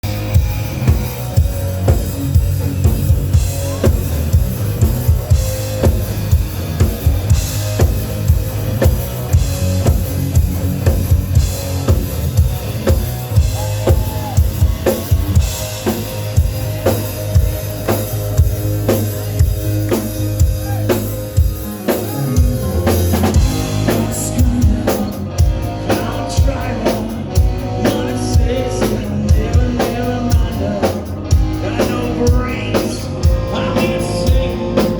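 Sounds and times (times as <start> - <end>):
drum kit beat: 0.0 - 34.9.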